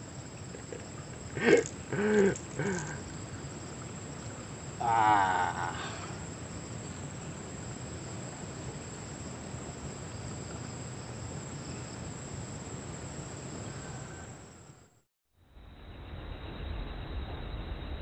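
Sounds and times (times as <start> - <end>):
insects chirring: 0.0 - 15.0
outdoor hiss: 0.0 - 15.0.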